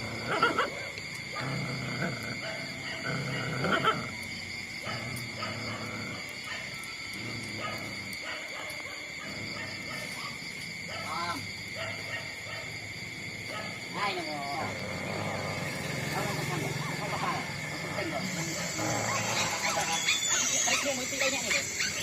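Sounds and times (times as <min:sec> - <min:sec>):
puppies crying and grunting: 0:00.0 - 0:22.0.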